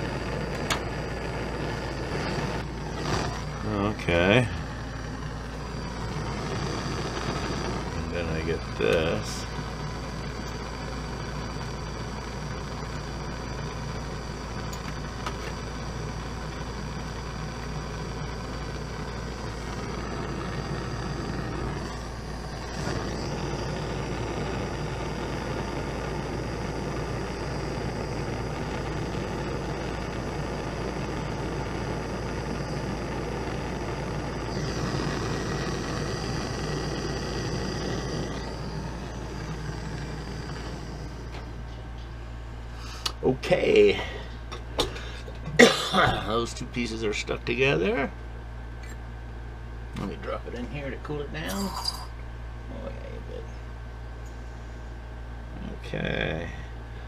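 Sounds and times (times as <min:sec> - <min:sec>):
gas torch flame hissing: 0:00.0 - 0:47.2.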